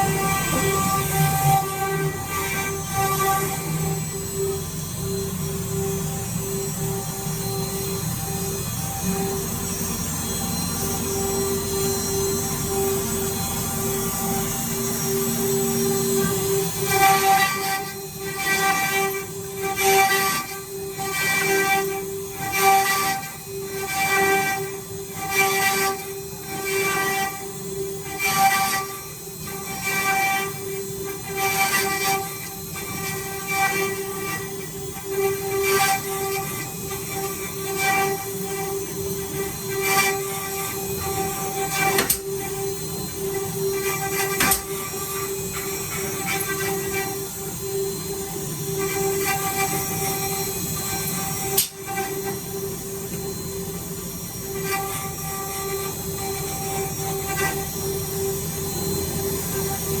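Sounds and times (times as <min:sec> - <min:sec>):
drill bits cutting wood: 0:00.0 - 0:04.0, 0:15.4 - 1:00.0
drilling machine motor whine: 0:00.0 - 1:00.0.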